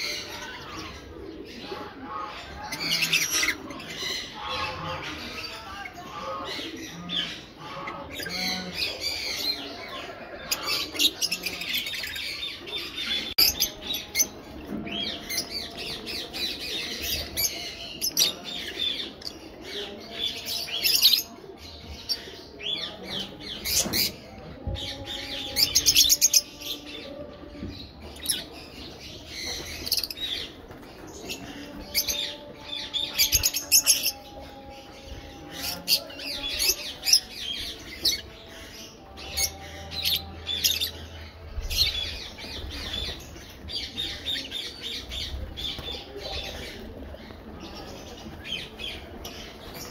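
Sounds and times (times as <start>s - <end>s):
lovebirds chirping and squawking: 0.0s - 49.9s.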